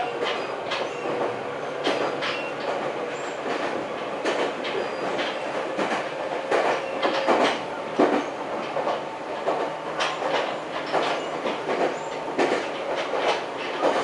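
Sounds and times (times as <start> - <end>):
train running noise: 0.0 - 14.0
wheels clacking over rail joints: 0.0 - 14.0.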